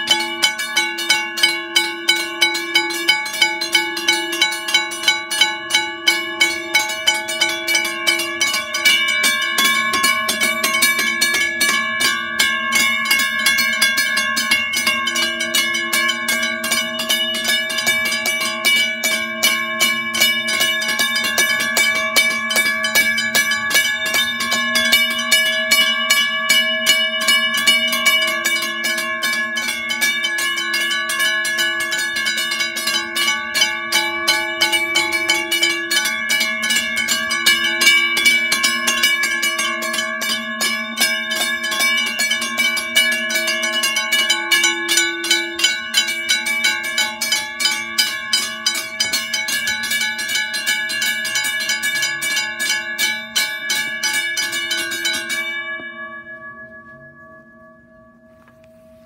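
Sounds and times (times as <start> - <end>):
railway crossing bells clanging: 0.0 - 59.0.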